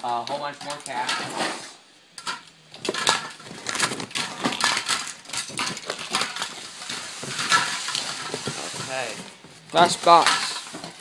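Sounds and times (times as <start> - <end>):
spray cans and caps clattering: 0.6 - 11.0.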